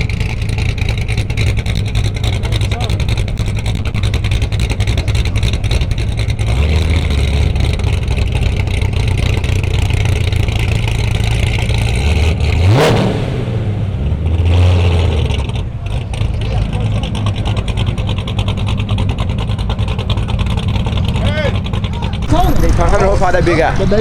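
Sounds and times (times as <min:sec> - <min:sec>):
car engine rumbling and revving: 0:00.0 - 0:24.0.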